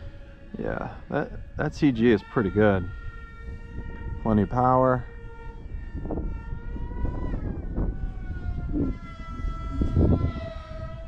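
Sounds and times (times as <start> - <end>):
model plane motor whining: 0.0 - 11.0
wind buffeting microphone: 0.0 - 11.0.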